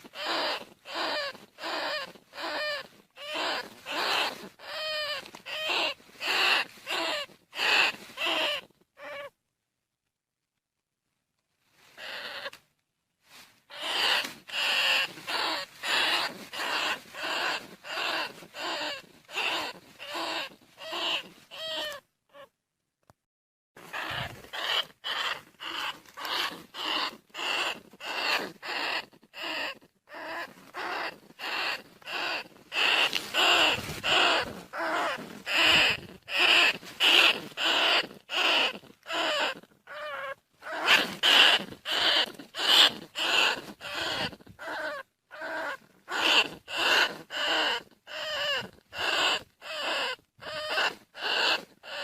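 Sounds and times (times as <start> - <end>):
rat calls: 0.0 - 9.4, 12.0 - 12.6, 13.7 - 22.5, 23.8 - 52.0.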